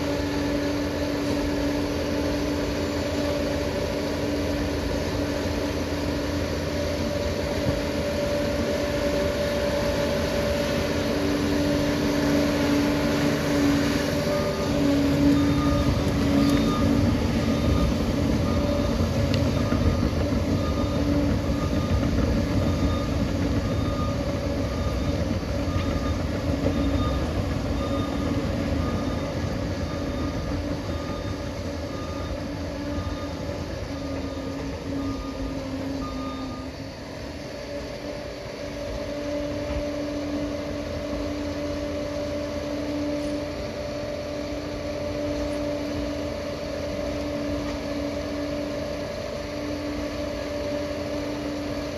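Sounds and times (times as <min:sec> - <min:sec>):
vehicle engine rumble: 0:00.0 - 0:51.9.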